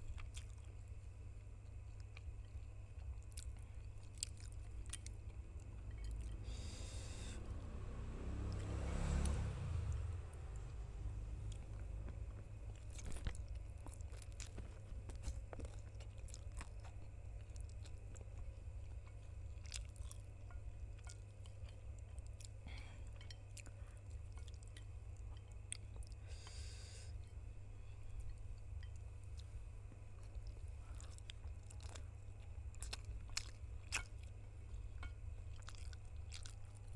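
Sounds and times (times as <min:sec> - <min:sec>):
chewing noodles: 0:00.0 - 0:09.7, 0:10.3 - 0:36.9
low hum: 0:00.0 - 0:36.9.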